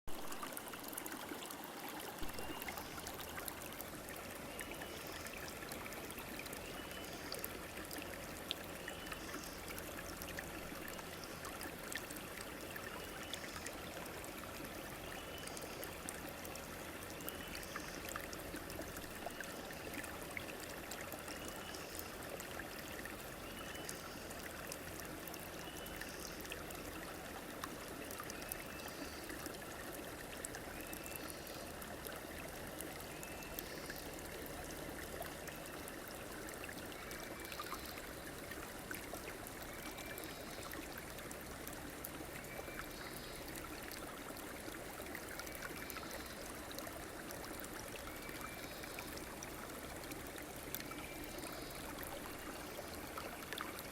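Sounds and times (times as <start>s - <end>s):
river water flowing: 0.1s - 53.9s.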